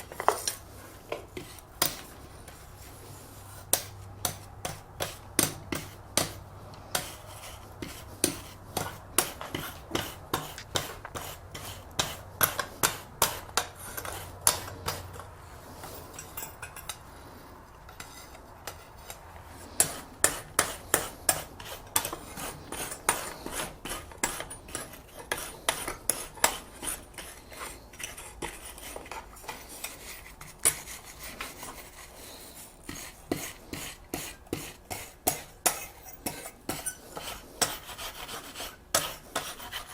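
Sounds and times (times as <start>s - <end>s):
wire brush scrubbing metal: 0.0s - 17.0s, 17.9s - 39.9s.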